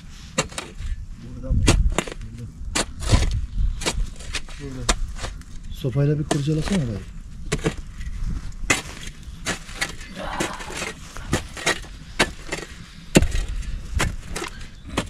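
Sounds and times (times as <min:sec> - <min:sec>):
hand tool knocking and scraping stones: 0:00.4 - 0:15.0.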